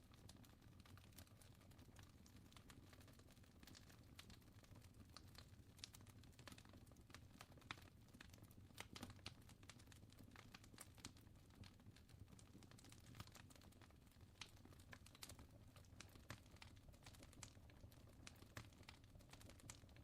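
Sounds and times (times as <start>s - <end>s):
faint fire crackling: 0.0s - 20.0s.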